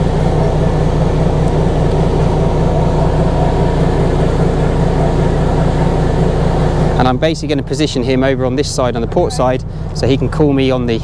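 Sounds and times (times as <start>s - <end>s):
boat engines idling: 0.0s - 11.0s.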